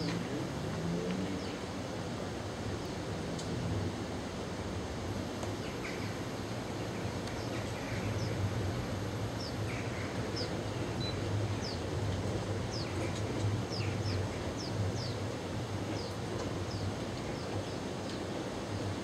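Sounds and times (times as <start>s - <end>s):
train rumbling in tunnel: 1.6s - 19.0s.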